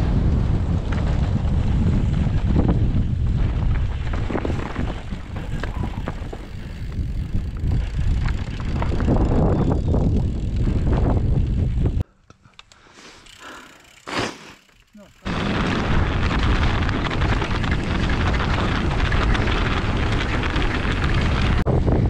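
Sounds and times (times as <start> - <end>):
bike rattling over stony trail: 0.0 - 12.0, 13.1 - 21.7
wind buffeting microphone: 0.0 - 12.0, 15.3 - 22.0.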